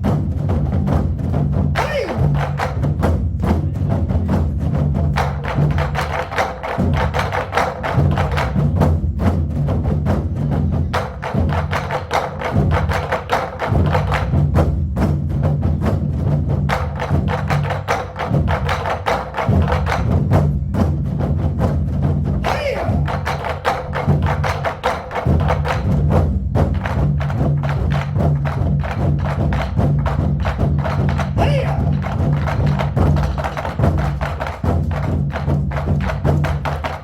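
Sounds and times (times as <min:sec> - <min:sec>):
barrel drums beating: 0:00.0 - 0:37.0.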